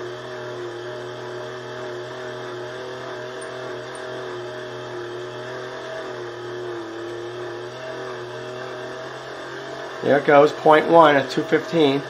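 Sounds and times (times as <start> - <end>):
hand-cranked generator whine: 1.0 - 12.0.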